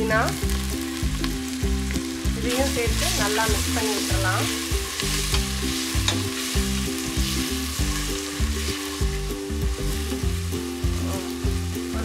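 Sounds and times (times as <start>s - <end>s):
background music with low notes: 0.0s - 12.0s
masala sizzling: 0.0s - 12.0s.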